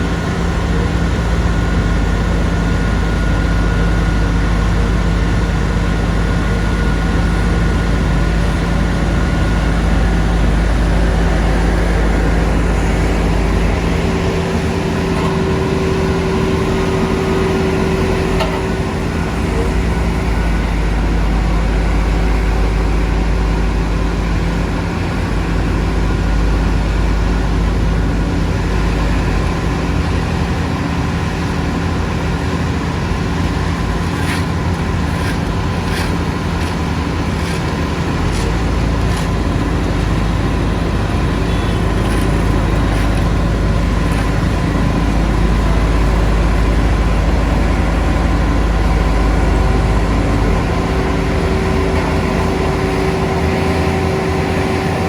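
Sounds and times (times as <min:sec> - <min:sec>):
heavy diesel engine rumbling: 0:00.0 - 0:55.0.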